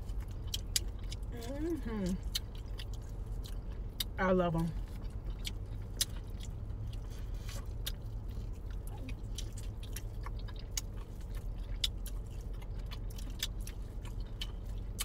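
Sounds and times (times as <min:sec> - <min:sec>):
crunchy chewing: 0:00.0 - 0:04.2, 0:04.8 - 0:15.0.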